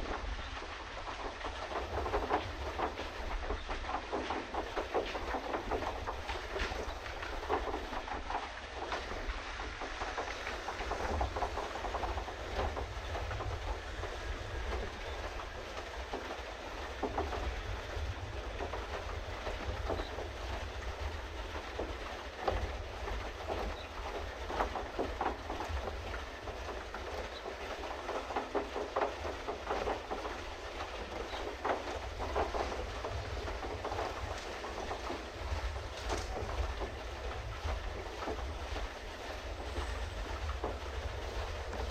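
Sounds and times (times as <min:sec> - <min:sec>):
paddle-wheel churning and clattering: 0:00.0 - 0:41.9.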